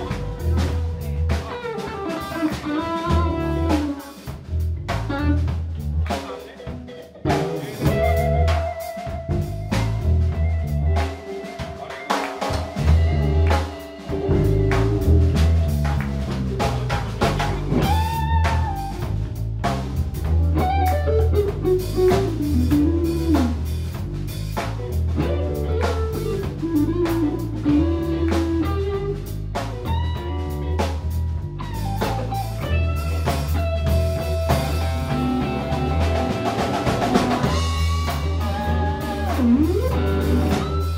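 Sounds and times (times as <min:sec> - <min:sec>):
lead guitar melody: 0:00.0 - 0:05.7, 0:06.6 - 0:16.6, 0:17.6 - 0:19.3, 0:20.0 - 0:24.0, 0:24.8 - 0:40.9
rock band playing instrumental: 0:00.0 - 0:40.9.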